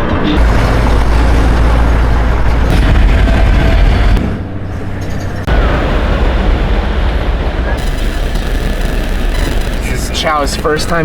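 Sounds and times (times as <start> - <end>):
diesel truck engine drone: 0.0 - 11.0.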